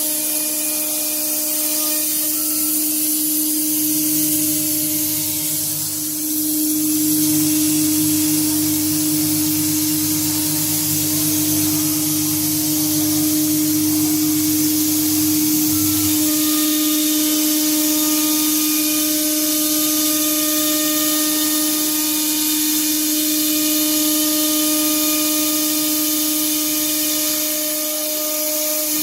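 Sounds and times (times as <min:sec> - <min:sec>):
low machine hum: 0:00.0 - 0:27.9
higher steady machine tones: 0:00.0 - 0:29.0
hiss: 0:00.0 - 0:29.0
router spindle whine: 0:00.0 - 0:29.0.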